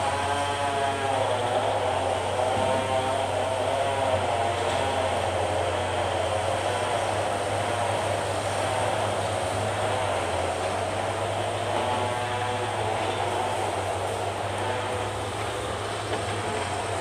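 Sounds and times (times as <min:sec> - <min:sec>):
excavator diesel engine whining: 0:00.0 - 0:17.0.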